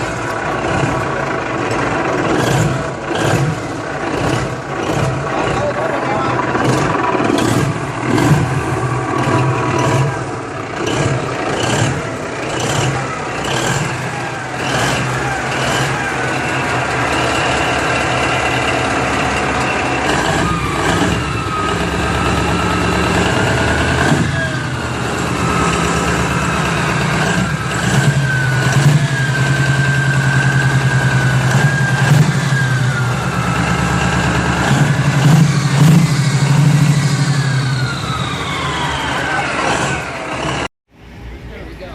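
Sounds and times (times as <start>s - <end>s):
large engine starting and running: 0.0s - 41.9s.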